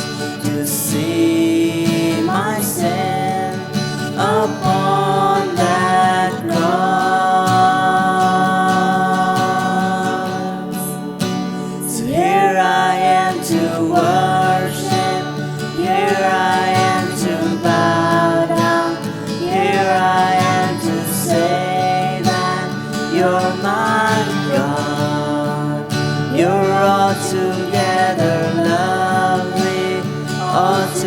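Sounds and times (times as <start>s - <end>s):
guitar-led accompaniment: 0.0s - 31.0s.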